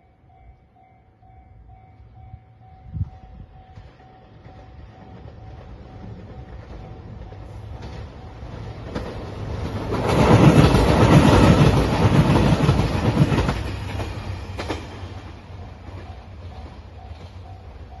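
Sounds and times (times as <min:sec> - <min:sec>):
diesel train passing: 0:00.0 - 0:18.0.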